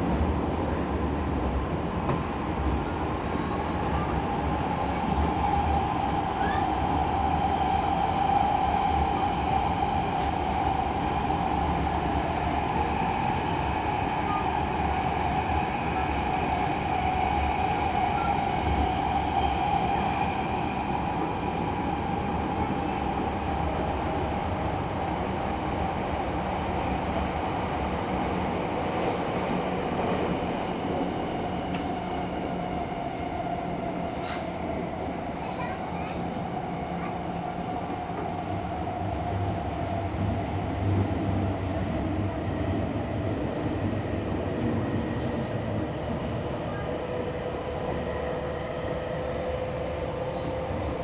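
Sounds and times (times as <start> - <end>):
subway train rumble: 0.0 - 51.0.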